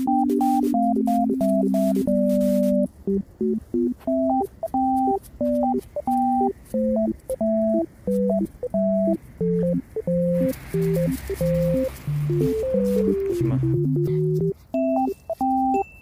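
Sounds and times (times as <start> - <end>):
bouncy electronic beep melody: 0.0 - 16.0
plain bass line: 0.1 - 14.5.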